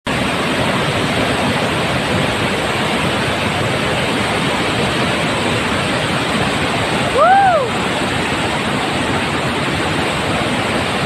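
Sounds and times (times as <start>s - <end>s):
floodwater rushing over a dam: 0.1s - 11.0s.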